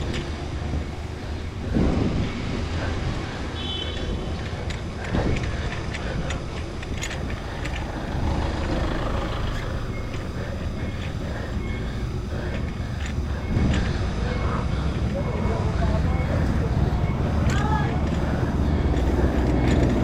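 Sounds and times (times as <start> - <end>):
bicycle clicks and rattles: 0.0 - 20.0
wind rumbling on microphone: 0.0 - 20.0.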